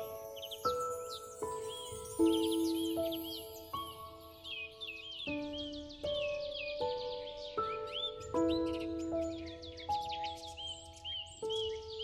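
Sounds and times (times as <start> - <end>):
background music of held chords: 0.0 - 12.0
birds chirping rapidly: 0.0 - 12.0.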